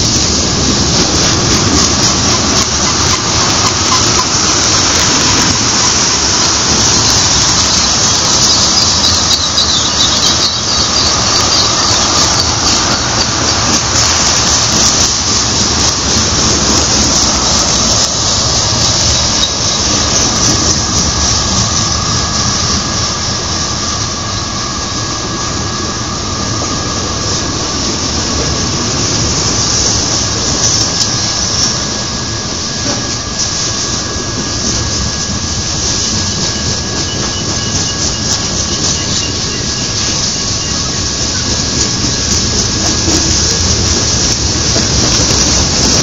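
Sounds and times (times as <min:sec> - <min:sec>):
train wheels rumbling on rail: 0:00.0 - 0:46.0
high-pitched wheel squeal: 0:01.2 - 0:41.6.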